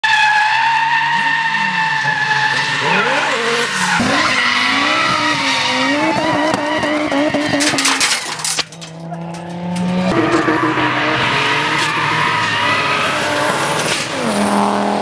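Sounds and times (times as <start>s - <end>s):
car engine revving: 1.2s - 15.0s.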